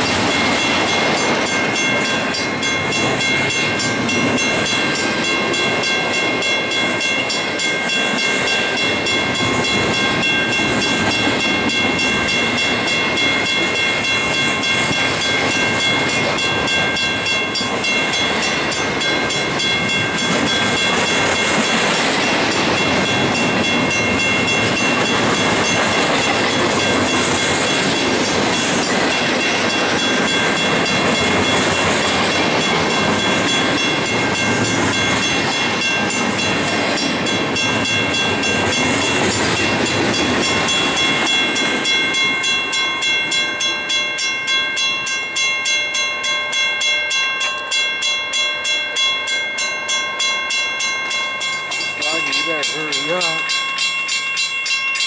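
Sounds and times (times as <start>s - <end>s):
crossing bell ringing: 0.0s - 55.0s
freight train rumbling past: 0.0s - 55.0s.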